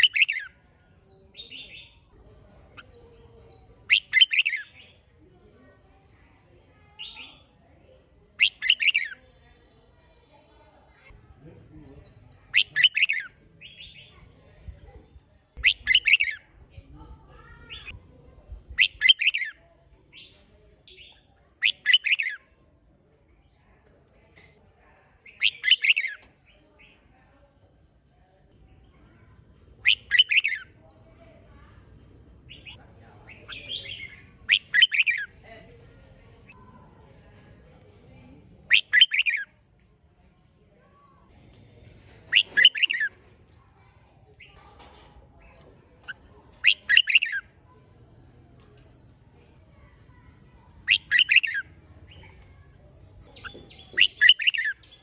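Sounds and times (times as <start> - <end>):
bird singing warbled phrases: 0.0 - 5.5, 6.9 - 11.2, 11.8 - 16.6, 17.5 - 22.6, 25.1 - 31.3, 32.1 - 35.4, 36.0 - 39.6, 40.8 - 55.0.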